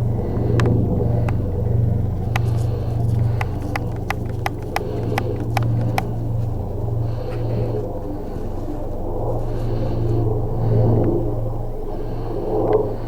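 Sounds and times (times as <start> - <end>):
distant helicopter rumble: 0.0 - 13.0.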